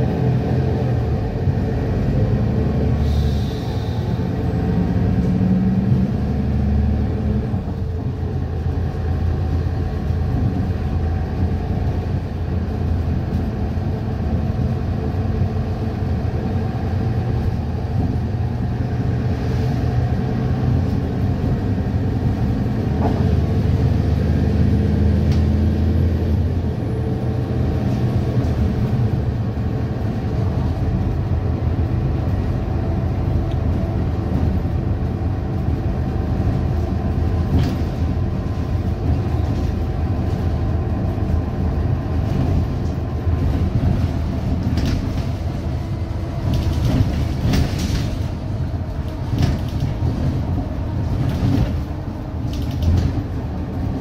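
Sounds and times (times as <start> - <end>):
bus diesel engine rumble: 0.0 - 54.0.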